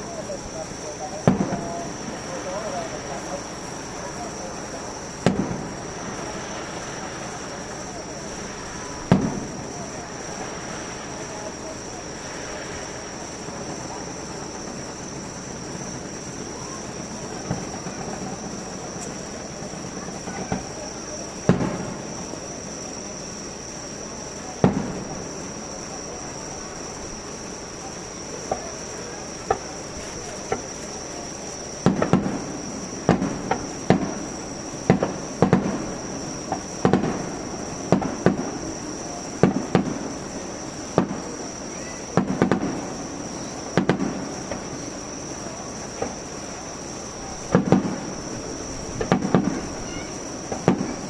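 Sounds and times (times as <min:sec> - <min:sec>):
fireworks booming: 0:00.0 - 0:51.0.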